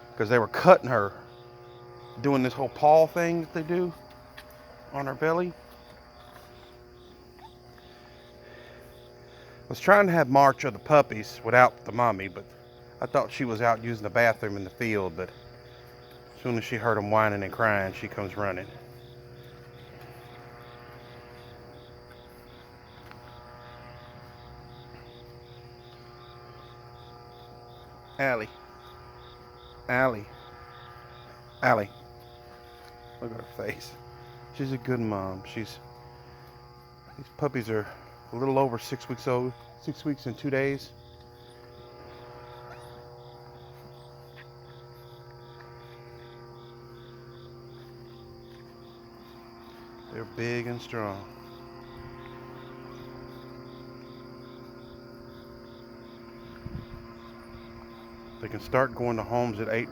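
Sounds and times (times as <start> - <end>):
cricket chirping: 0.0 - 59.9
faint steady hum: 0.0 - 59.9.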